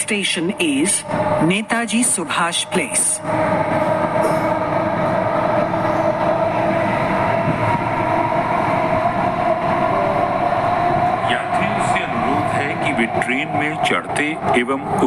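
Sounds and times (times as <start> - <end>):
train wheels rumbling on track: 0.0 - 15.0
high-pitched whine: 0.6 - 15.0.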